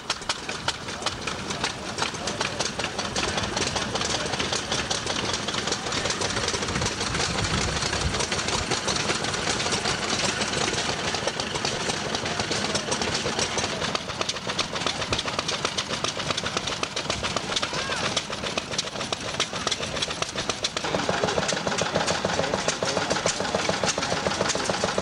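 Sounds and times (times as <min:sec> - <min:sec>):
stationary engines clattering: 0:00.0 - 0:25.0.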